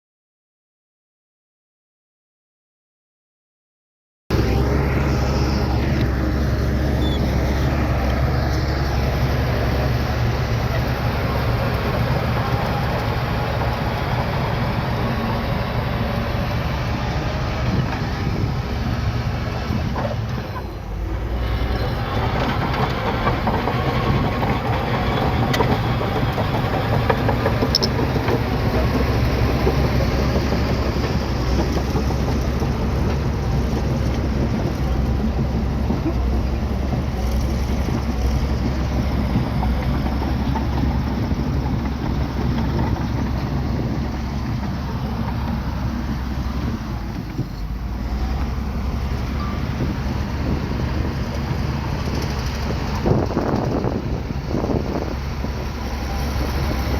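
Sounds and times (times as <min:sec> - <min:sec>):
bulldozer diesel engine running: 0:04.3 - 0:56.9.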